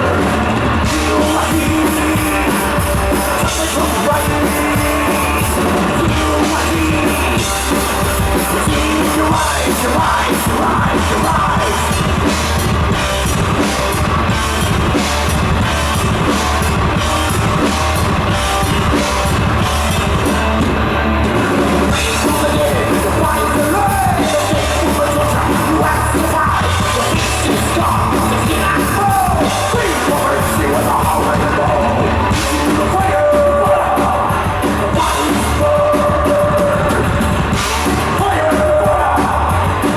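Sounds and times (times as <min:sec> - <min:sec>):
metal band playing live: 0:00.0 - 0:39.9
yelled sung vocals: 0:00.0 - 0:39.9.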